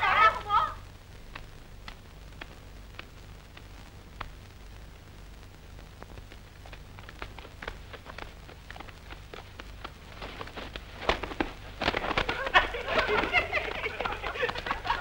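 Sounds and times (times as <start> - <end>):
film soundtrack hiss and hum: 0.0 - 15.0
faint clicks: 1.2 - 15.0.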